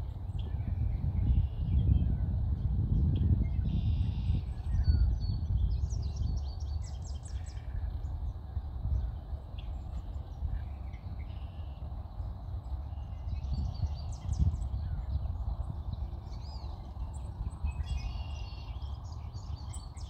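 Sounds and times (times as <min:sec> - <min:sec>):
wind rumbling on microphone: 0:00.0 - 0:20.0
small birds chirping: 0:03.0 - 0:20.0.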